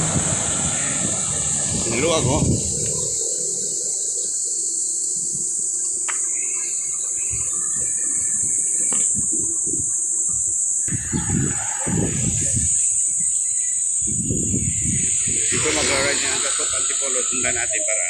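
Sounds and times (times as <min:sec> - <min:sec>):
steady high hiss: 0:00.0 - 0:18.0
wind buffeting microphone: 0:00.0 - 0:18.0.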